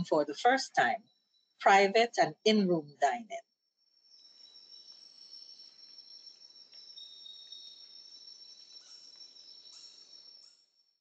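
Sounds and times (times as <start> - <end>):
insects chirring: 0.2 - 11.0.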